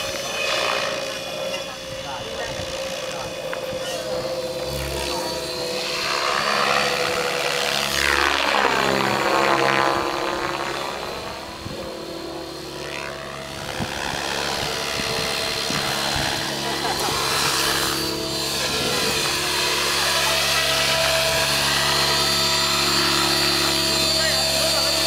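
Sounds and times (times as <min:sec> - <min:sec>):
model airplane buzzing drone: 0:00.0 - 0:25.0.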